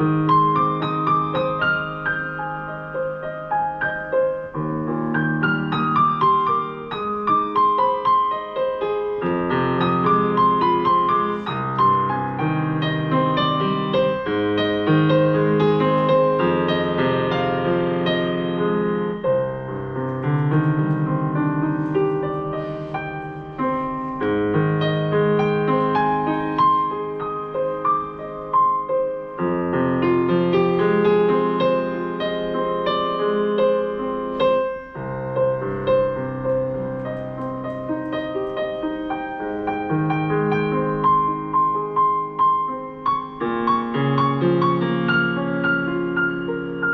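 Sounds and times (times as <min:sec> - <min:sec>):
solo piano: 0:00.0 - 0:46.9.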